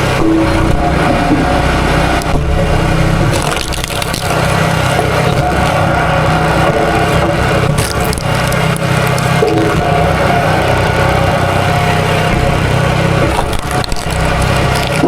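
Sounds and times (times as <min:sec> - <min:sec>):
small gas engine running: 0:00.0 - 0:15.0.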